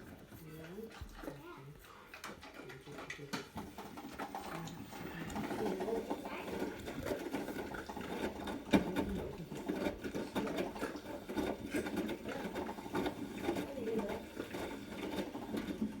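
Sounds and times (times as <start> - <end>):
washing machine rattling: 2.0 - 16.0.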